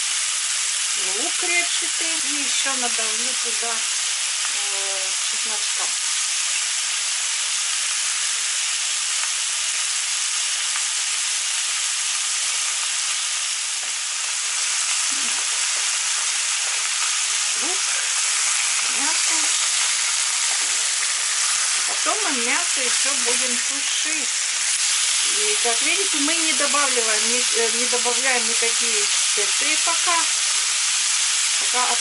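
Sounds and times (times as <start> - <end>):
meat and onion sizzling in pans: 0.0 - 32.0.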